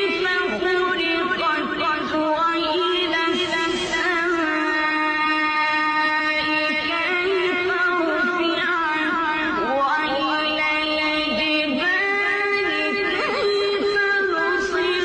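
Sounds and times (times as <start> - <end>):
person chanting recitation: 0.0 - 15.0.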